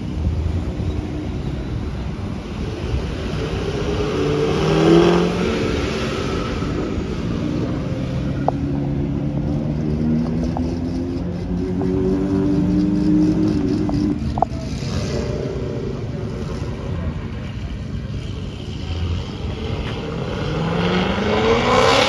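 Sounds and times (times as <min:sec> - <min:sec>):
car engine revving: 0:03.0 - 0:22.0.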